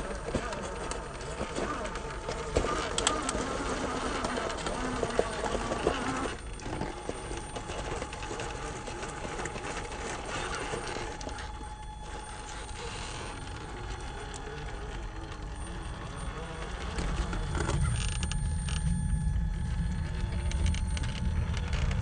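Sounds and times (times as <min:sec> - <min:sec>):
tyres scraping on rock: 0:00.0 - 0:19.0
electric motor whining: 0:00.0 - 0:22.0.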